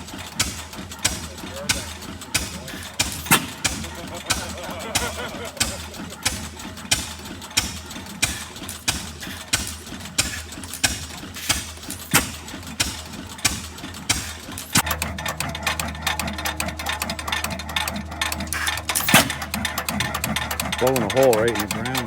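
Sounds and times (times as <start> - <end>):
engine rapid clicking: 0.0 - 22.0
stationary engine running: 0.0 - 22.0.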